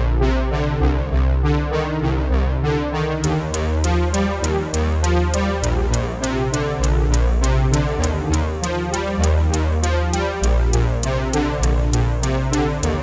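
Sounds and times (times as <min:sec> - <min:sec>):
electronic music with deep bass: 0:00.0 - 0:13.0.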